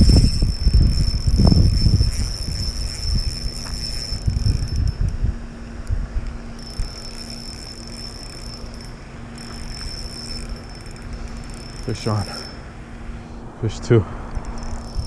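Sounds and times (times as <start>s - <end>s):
fishing reel whirring: 0.0s - 13.2s, 14.3s - 15.0s
handling rumble: 0.0s - 15.0s
low steady hum: 0.0s - 15.0s.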